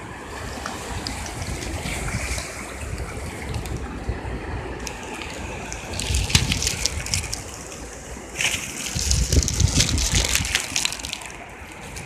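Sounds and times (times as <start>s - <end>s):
surf washing over sand: 0.0s - 12.0s
wind rumbling on microphone: 0.0s - 12.0s.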